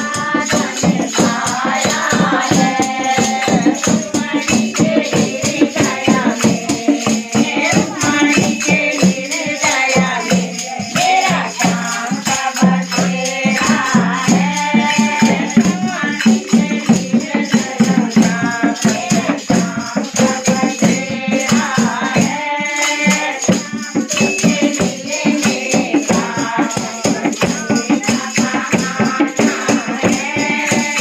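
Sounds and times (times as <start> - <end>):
hand drums beating: 0.0 - 31.0
women singing together: 0.0 - 31.0.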